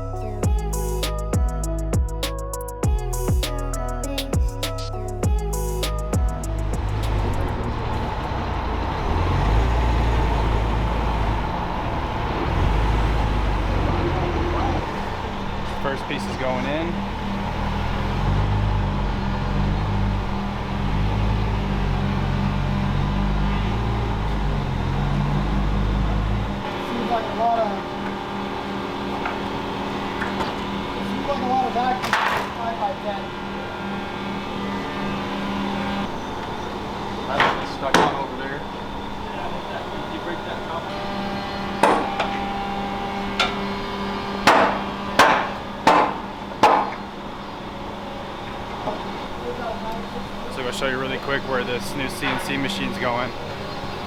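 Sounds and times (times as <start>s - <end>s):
heavy engine droning: 0.0s - 54.0s.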